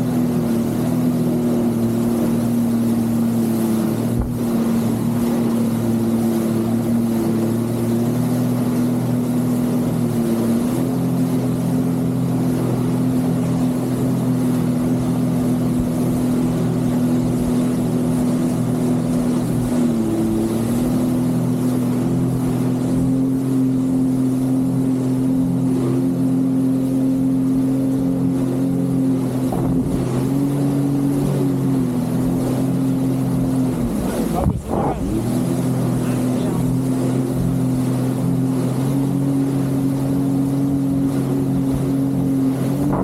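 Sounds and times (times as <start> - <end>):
jet ski engine running: 0.0 - 43.0.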